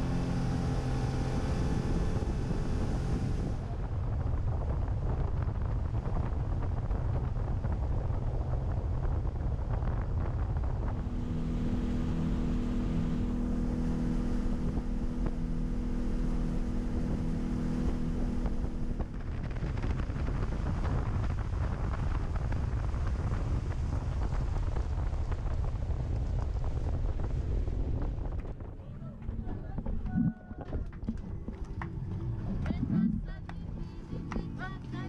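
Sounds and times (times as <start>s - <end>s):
motorboat engine drone: 0.0s - 35.0s
wind buffeting microphone: 0.0s - 35.0s.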